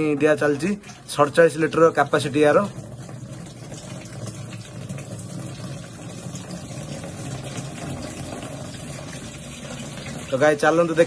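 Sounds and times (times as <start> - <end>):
water pouring into tank: 0.0 - 11.0.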